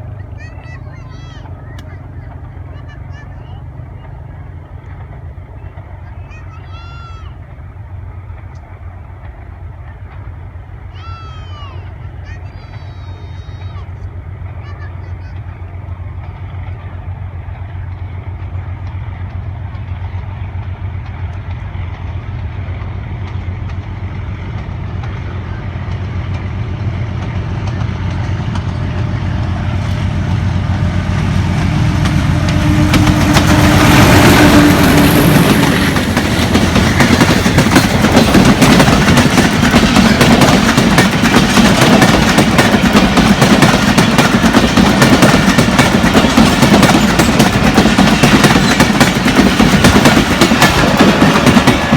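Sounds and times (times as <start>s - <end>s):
diesel locomotive engine: 0.0s - 51.9s
train wheels clattering on rails: 0.0s - 51.9s.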